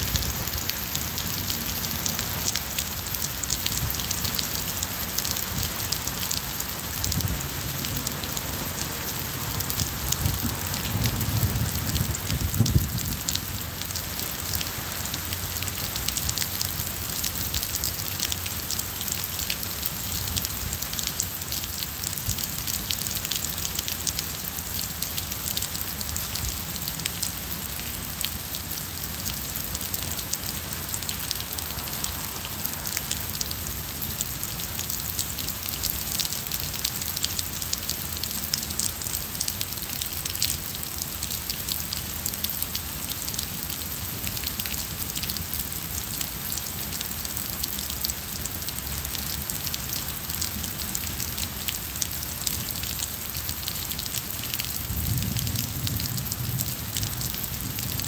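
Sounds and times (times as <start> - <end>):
rain on paving and plants: 0.0 - 58.0.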